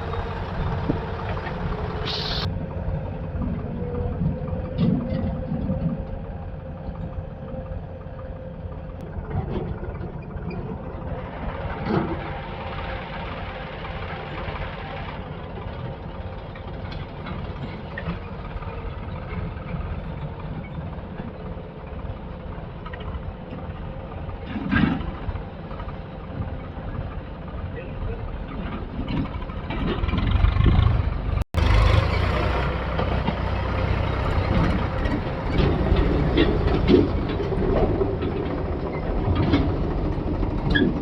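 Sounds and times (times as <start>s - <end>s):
heavy machinery diesel engine running: 0.0s - 41.0s.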